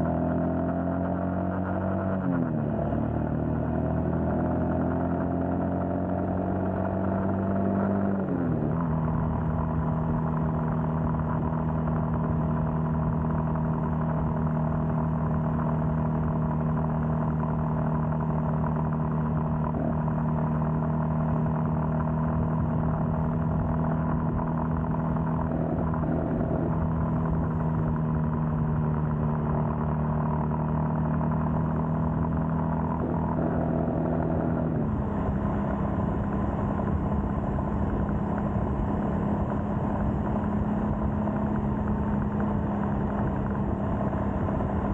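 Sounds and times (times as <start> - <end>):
motorcycle engine cruising: 0.0 - 44.9
road and wind noise: 0.0 - 44.9.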